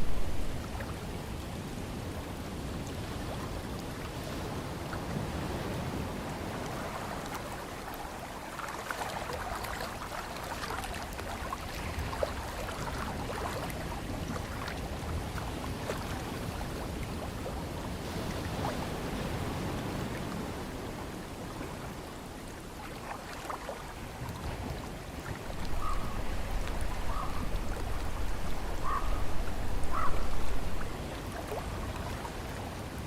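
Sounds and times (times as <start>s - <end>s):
low rumble of waves: 0.0s - 33.0s
ocean water lapping: 0.0s - 33.0s
small splashes and trickles: 2.8s - 18.9s, 21.1s - 33.0s.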